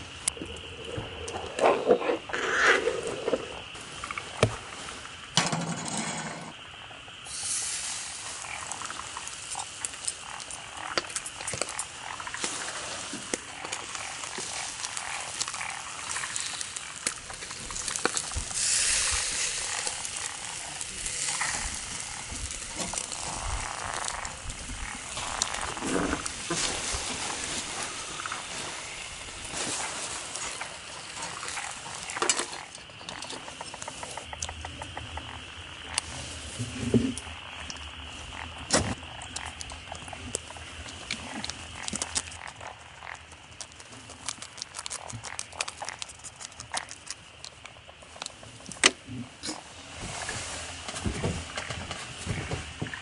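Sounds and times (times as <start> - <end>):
rain falling on a tarp: 7.2 - 34.6, 35.2 - 53.0.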